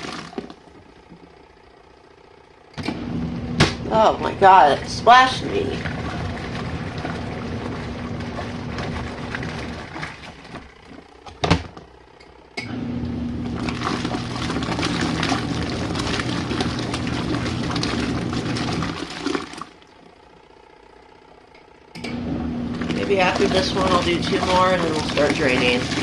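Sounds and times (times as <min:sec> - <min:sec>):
water sloshing in tub: 0:00.0 - 0:01.5, 0:03.6 - 0:12.0, 0:13.3 - 0:20.6, 0:22.2 - 0:26.0
washing machine motor humming: 0:00.0 - 0:26.0.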